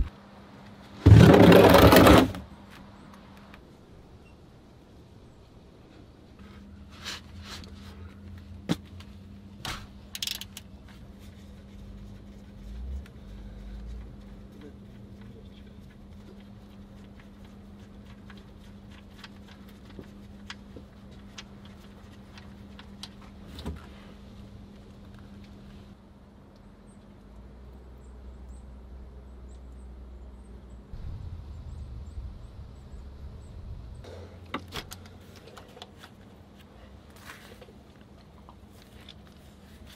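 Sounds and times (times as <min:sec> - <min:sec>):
steady low hum: 0:03.7 - 0:39.9.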